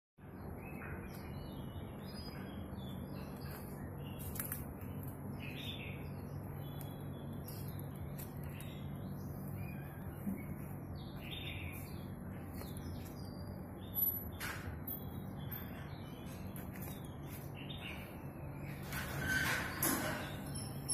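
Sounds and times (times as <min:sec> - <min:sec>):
birds chirping: 0:00.2 - 0:20.9.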